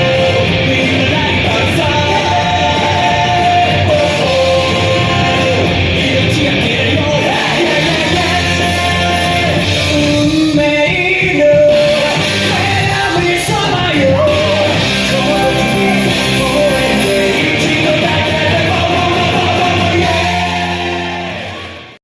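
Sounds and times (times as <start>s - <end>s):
rock song with sung vocals: 0.0s - 22.0s.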